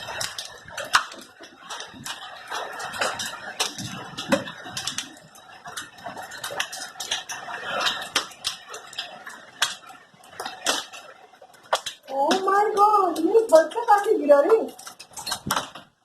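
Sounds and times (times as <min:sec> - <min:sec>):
hiss of falling hail and rain: 0:00.0 - 0:15.9
hail clattering on hard surfaces: 0:00.0 - 0:16.0.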